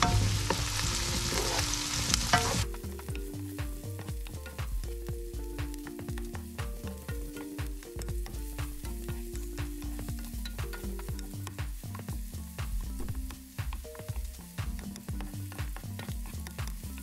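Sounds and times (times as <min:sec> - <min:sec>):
food sizzling in oil: 0:00.0 - 0:17.0
wooden spatula knocking on pan: 0:00.0 - 0:17.0.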